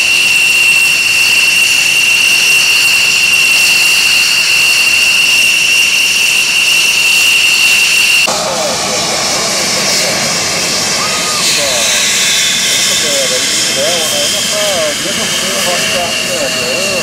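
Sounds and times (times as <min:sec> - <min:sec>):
jet engine whine: 0:00.0 - 0:17.0
jet noise rush: 0:00.0 - 0:17.0.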